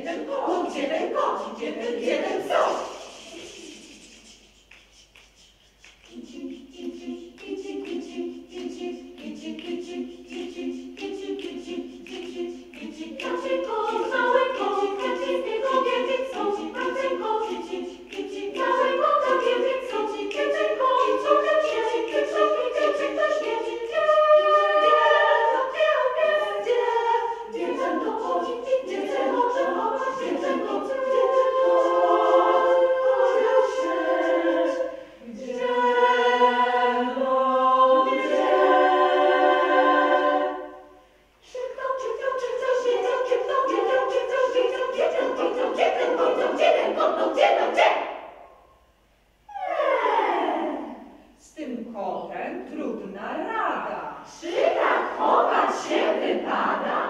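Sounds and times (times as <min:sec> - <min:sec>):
women's choir singing a cappella: 0:00.0 - 0:51.5, 0:53.5 - 0:57.0.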